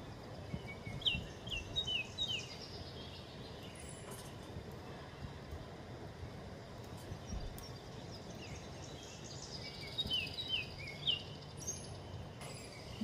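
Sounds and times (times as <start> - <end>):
small songbird chirping: 0.0 - 4.5, 6.9 - 13.0
outdoor background noise: 0.0 - 13.0.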